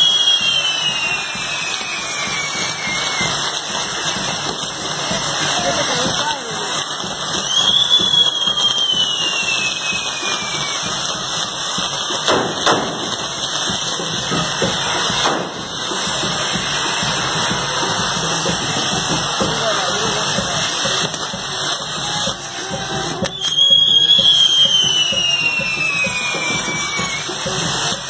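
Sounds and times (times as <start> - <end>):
firework cracks: 0.0 - 28.0
firework spark fountains hissing: 0.0 - 28.0.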